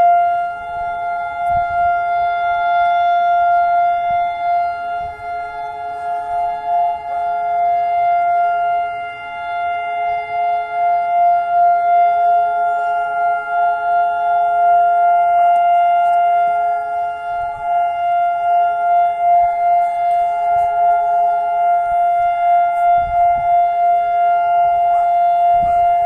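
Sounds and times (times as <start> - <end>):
siren steady tone: 0.0 - 26.0.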